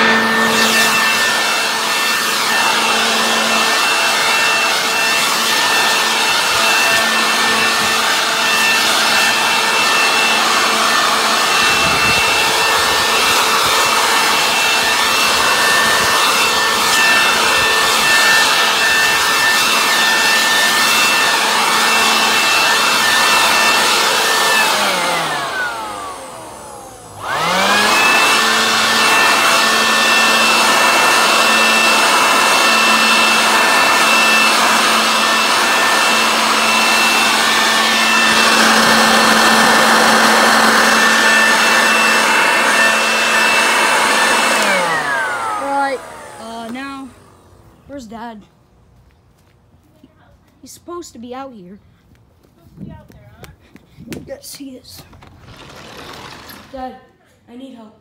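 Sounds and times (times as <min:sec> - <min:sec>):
electric leaf blower whine: 0:00.0 - 0:49.6, 0:55.0 - 0:56.9.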